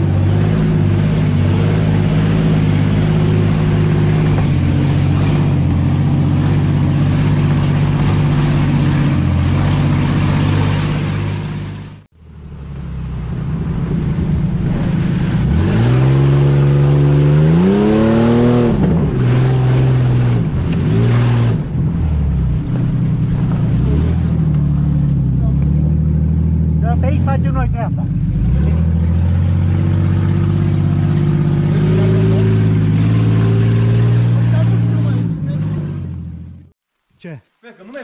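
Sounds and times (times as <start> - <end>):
off-road engine revving: 0.0 - 36.7.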